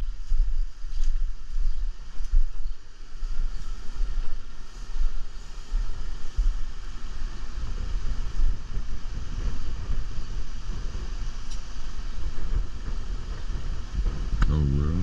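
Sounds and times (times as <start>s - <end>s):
air-conditioner condenser running: 0.0s - 15.0s
wind buffeting microphone: 0.0s - 15.0s.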